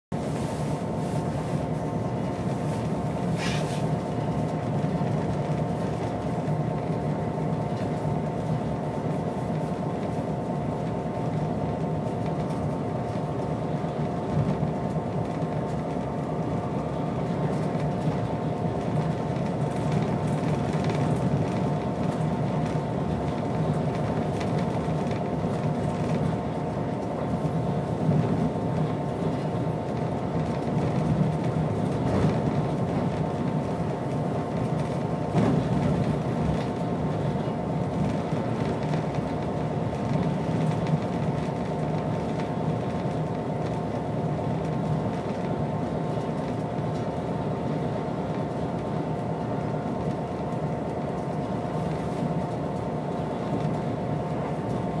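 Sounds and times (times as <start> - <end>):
diesel locomotive drone: 0.1 - 55.0.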